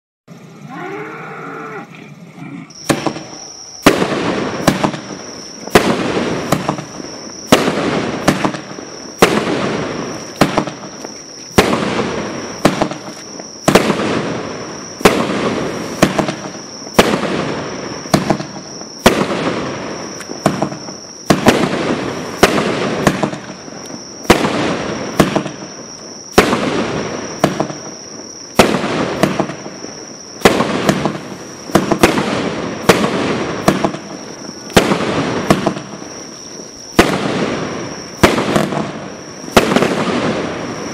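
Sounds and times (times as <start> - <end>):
firework shots with crackling bursts: 2.5 - 40.9.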